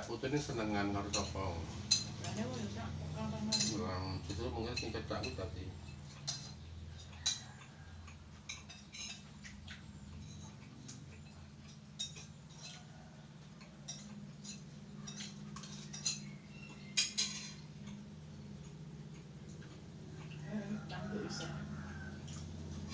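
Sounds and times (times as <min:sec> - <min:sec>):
steady low hum: 0:00.0 - 0:22.9
spoons clinking on plates: 0:00.3 - 0:02.8, 0:03.4 - 0:20.4.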